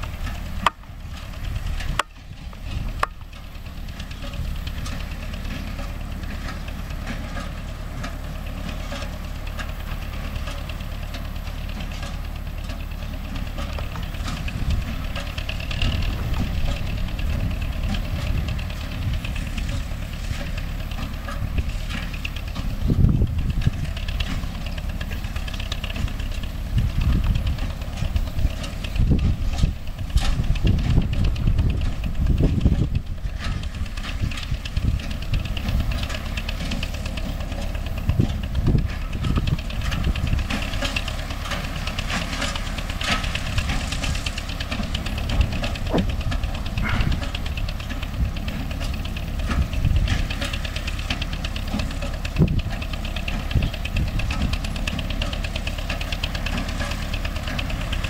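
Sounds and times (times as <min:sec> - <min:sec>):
hay baler ticking and clatter: 0:00.0 - 0:58.0
tractor engine running: 0:00.0 - 0:58.0.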